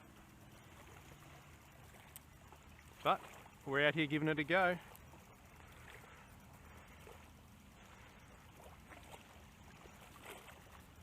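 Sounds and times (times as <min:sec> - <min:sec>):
soft small splashes: 0:00.0 - 0:03.9, 0:04.6 - 0:11.0
water lapping at shoreline: 0:00.0 - 0:11.0.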